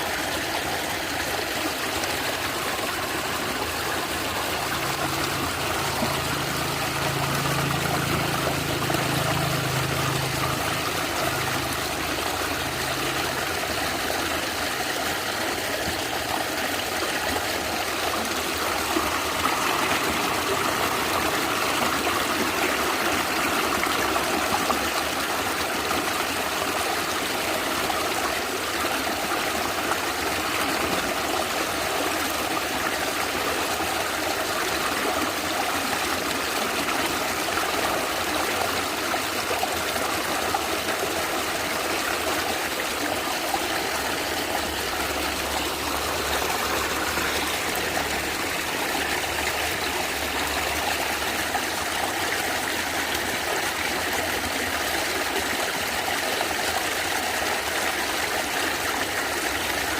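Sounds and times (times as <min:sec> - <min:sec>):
stream gurgling over rocks: 0:00.0 - 0:59.9.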